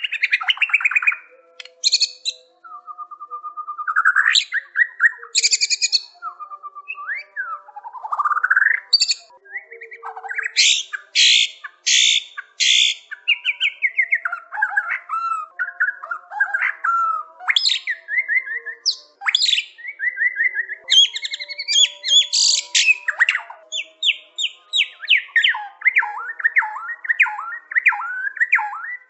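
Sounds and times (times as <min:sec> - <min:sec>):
bird singing: 0:00.0 - 0:29.0.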